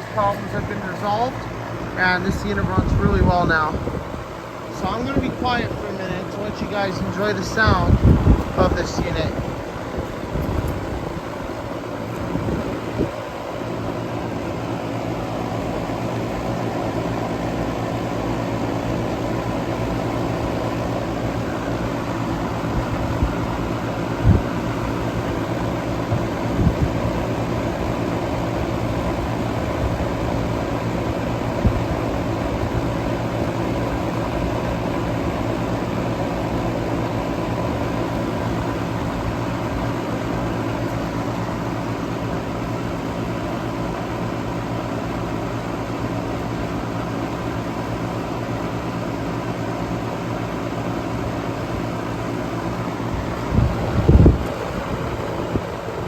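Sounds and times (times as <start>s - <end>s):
compressor hum: 0.0s - 56.0s
condenser fan rushing: 0.0s - 56.0s.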